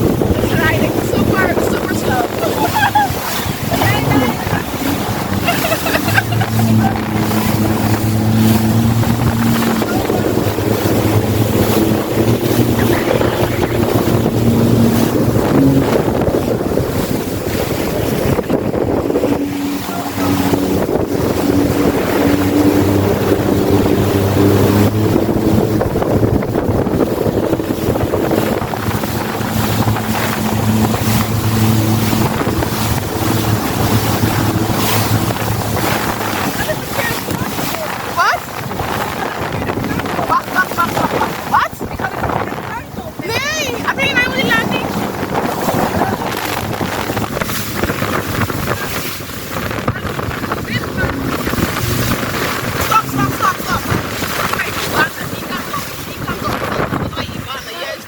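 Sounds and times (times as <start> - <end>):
jet ski engine running: 0.0 - 58.0
water rushing past: 0.0 - 58.0
wind buffeting microphone: 0.0 - 58.0.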